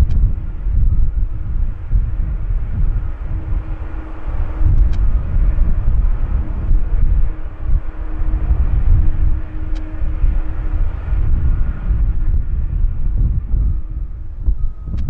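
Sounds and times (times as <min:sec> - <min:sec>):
faint steady engine whine: 0:00.0 - 0:15.0
jet engines rumbling: 0:00.0 - 0:15.0.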